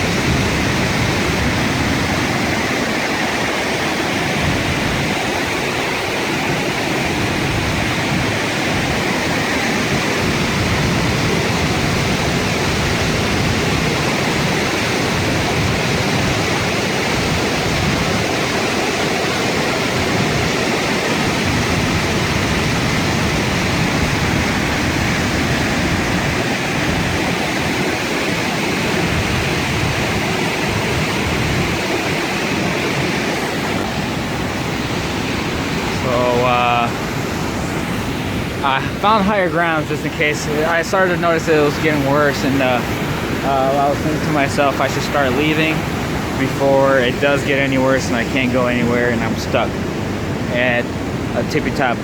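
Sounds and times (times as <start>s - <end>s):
flood water rushing over waterfall: 0.0s - 52.0s.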